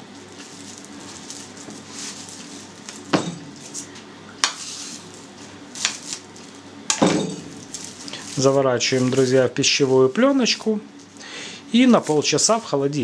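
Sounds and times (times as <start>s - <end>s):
cling film rustling: 0.0s - 11.2s.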